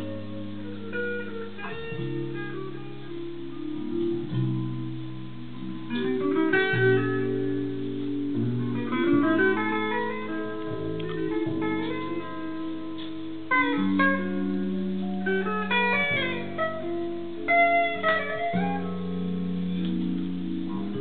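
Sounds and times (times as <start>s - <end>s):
plucked-string music from speakers: 0.0s - 21.0s.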